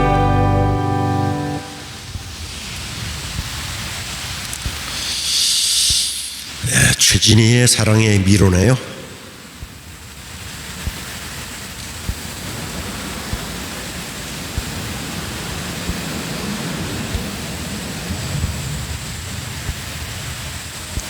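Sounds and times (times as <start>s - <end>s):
audio line hiss: 0.0s - 21.0s.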